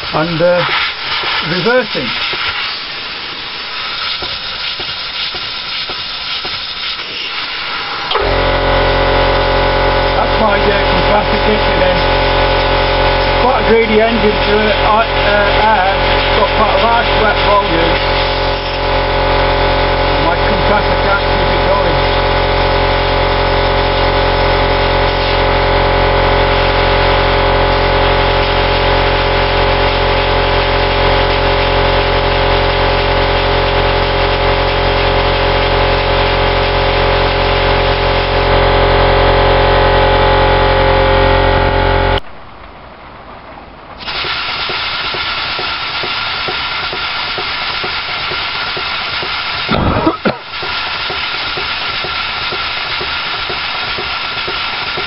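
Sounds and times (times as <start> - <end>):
air engine hissing: 0.0 - 40.0, 44.0 - 55.0
air compressor humming: 0.0 - 42.9, 43.9 - 55.0.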